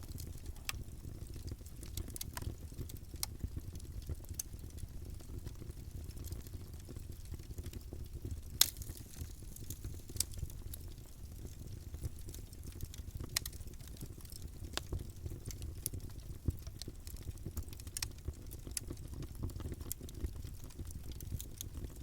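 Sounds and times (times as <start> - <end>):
low rumble of flames: 0.0 - 22.0
wood crackling and popping: 0.0 - 22.0.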